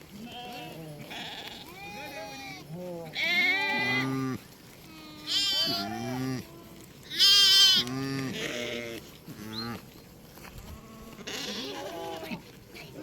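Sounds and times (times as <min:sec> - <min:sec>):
sheep bleating: 0:00.1 - 0:09.9, 0:10.7 - 0:12.4.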